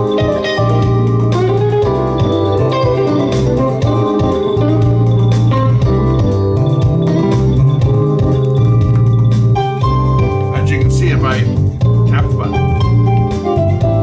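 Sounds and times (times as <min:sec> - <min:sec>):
keyboard music with heavy bass: 0:00.0 - 0:14.0.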